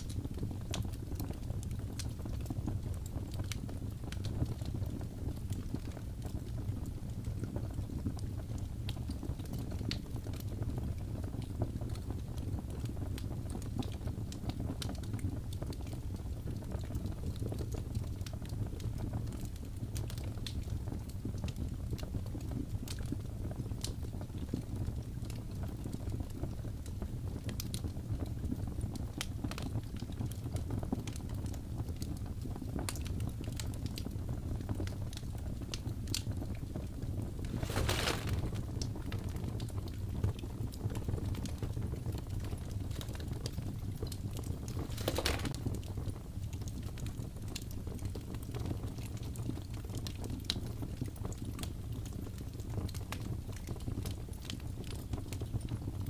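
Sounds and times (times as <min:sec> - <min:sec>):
wood fire burning: 0:00.0 - 0:56.0.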